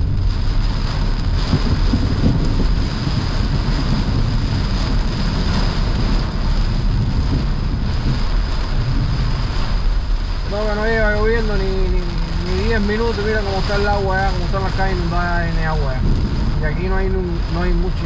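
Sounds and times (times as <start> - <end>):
heavy rain on car windshield: 0.0 - 18.0
tyres on flooded road: 0.0 - 18.0.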